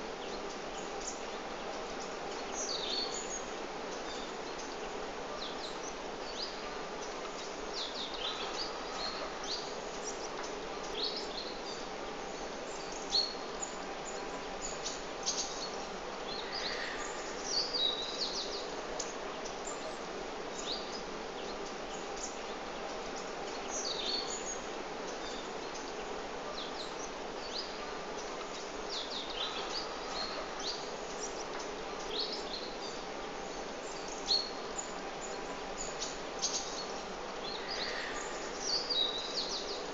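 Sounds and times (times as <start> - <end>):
steady background noise: 0.0 - 39.9
birds chirping: 0.1 - 39.9.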